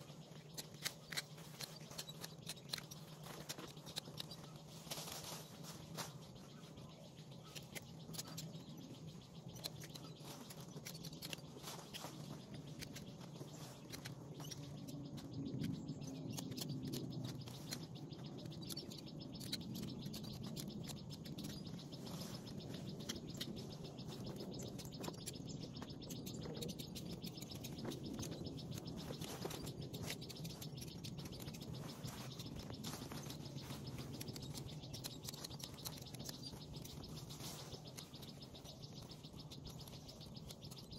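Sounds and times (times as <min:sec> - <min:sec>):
birds chirping: 0:00.0 - 0:40.9
leaves and branches rustling: 0:00.0 - 0:40.9
steady low hum: 0:00.0 - 0:40.9.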